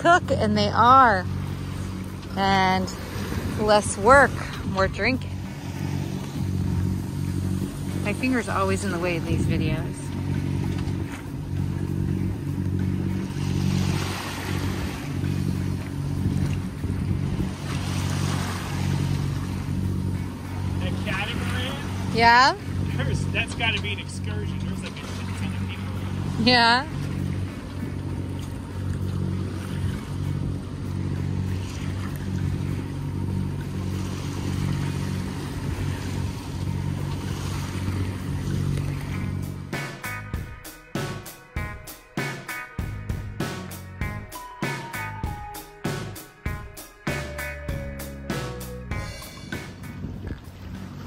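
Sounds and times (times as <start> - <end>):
boat diesel engine running: 0.0 - 51.0
water rushing past hull: 0.0 - 51.0.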